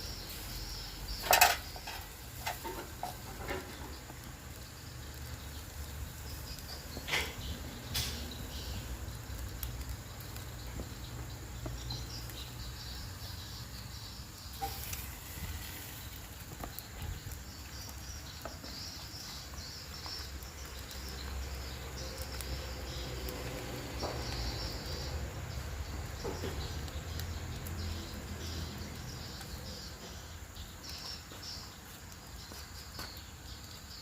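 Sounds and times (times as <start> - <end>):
birds chirping: 0.0 - 34.0
insects chirping: 0.0 - 34.0.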